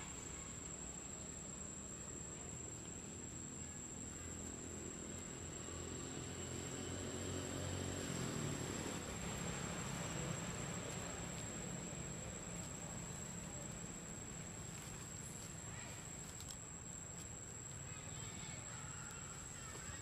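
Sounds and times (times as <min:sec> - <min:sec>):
constant hiss: 0:00.0 - 0:20.0
high-pitched insect whine: 0:00.0 - 0:20.0.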